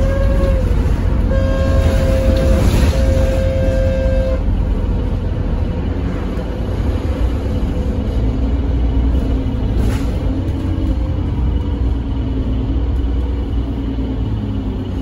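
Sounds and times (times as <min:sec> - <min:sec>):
bus engine rumble from inside: 0:00.0 - 0:15.0.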